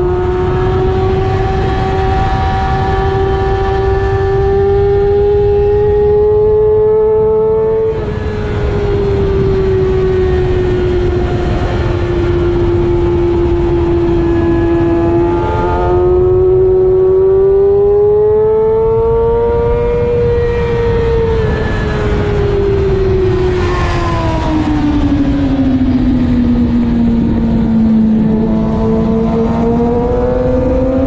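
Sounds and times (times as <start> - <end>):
motorcycle engine at high revs: 0.0 - 26.6, 27.2 - 31.0
wind rush over microphone: 0.0 - 31.0.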